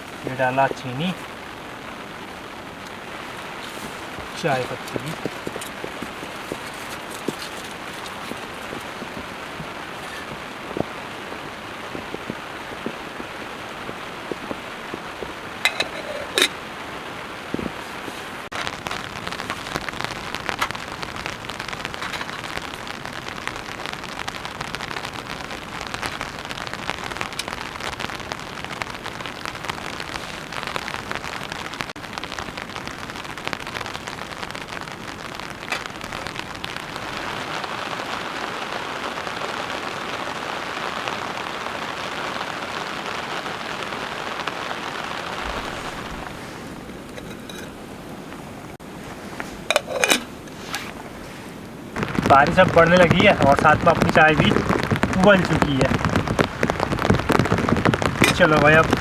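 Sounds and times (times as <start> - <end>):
rain pattering on a tarp: 0.0 - 59.0.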